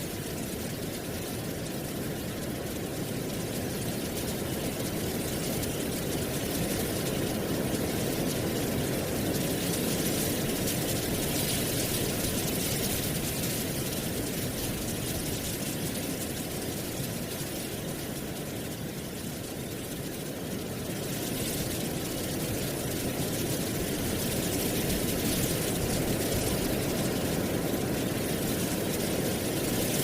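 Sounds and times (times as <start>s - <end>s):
wind blowing through trees: 0.0s - 30.0s.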